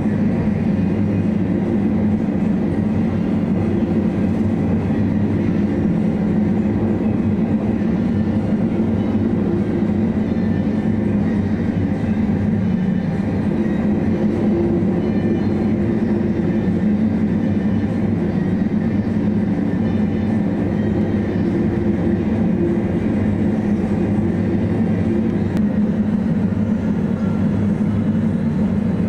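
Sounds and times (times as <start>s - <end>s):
ship engines droning: 0.0s - 29.0s.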